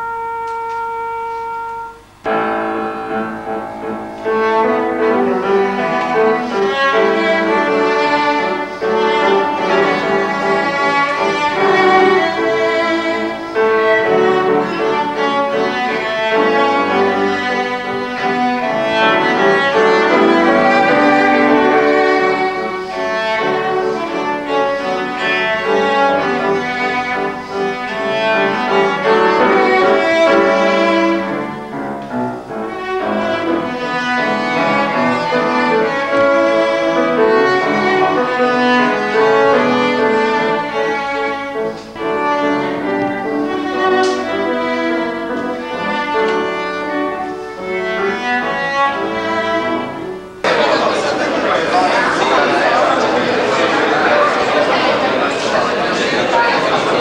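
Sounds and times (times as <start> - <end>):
bowed cello: 0.0 - 57.0
piano: 0.0 - 57.0.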